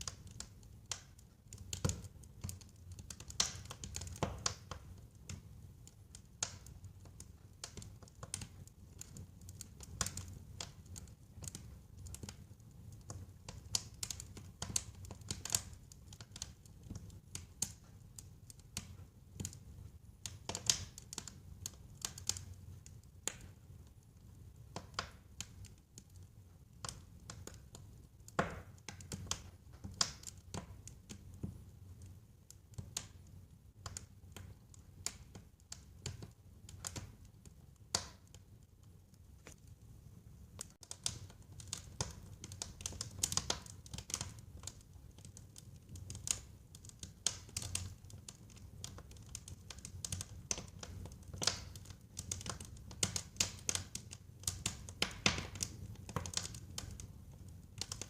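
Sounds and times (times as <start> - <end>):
faint low rumble of flames: 0.0 - 58.0
wood fire crackling and popping: 0.0 - 58.0.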